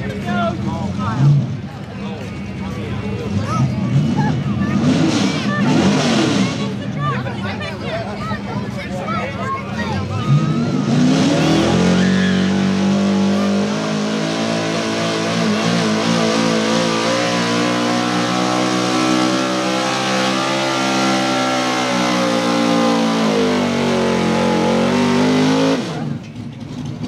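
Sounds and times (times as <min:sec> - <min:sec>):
truck engine at full throttle: 0:00.0 - 0:27.0.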